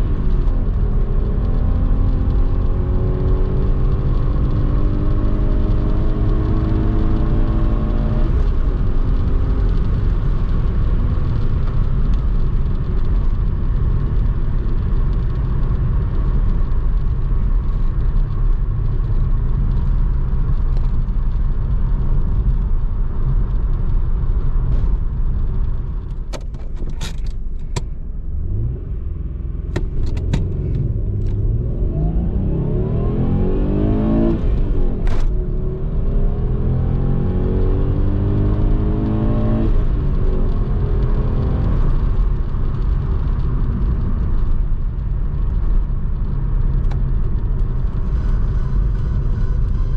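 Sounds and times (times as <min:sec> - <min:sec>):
car engine accelerating: 0:00.0 - 0:49.9
road noise: 0:00.0 - 0:49.9.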